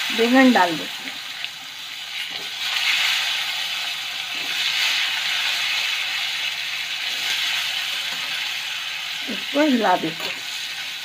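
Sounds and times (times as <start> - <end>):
eggplant sizzling in hot oil: 0.0 - 11.0.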